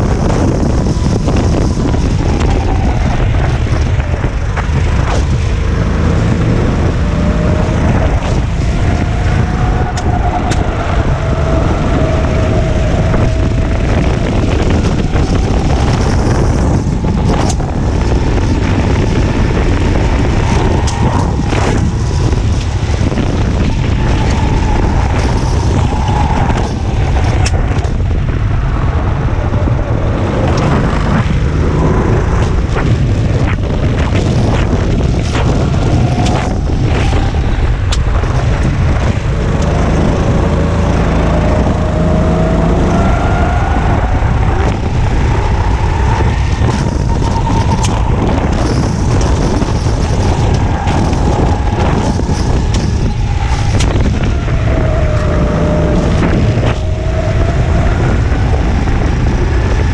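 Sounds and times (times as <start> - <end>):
go-kart engine revving: 0.0 - 59.9
wind rumble on microphone: 0.0 - 59.9.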